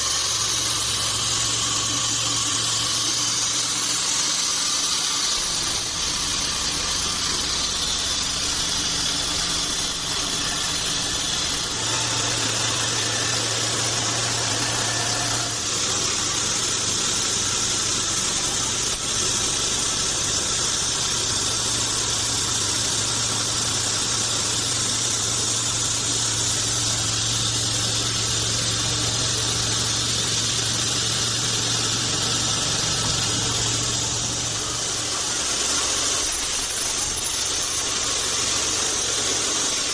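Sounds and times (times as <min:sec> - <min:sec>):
band saw hiss: 0:00.0 - 0:39.9
low motor hum: 0:00.0 - 0:39.9.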